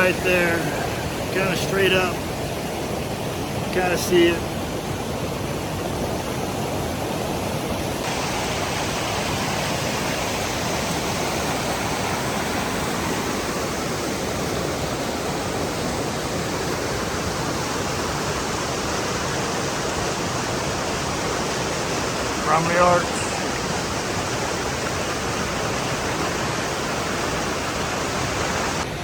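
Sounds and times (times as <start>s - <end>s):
small waterfall rushing splash: 0.0s - 29.0s.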